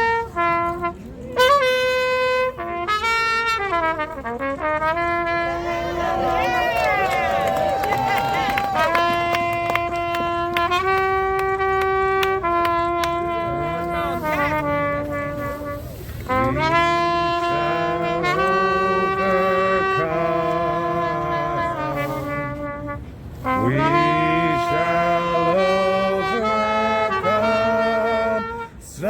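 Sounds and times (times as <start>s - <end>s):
lower accompanying line: 0.0s - 29.0s
trumpet playing slow melody: 0.0s - 29.0s.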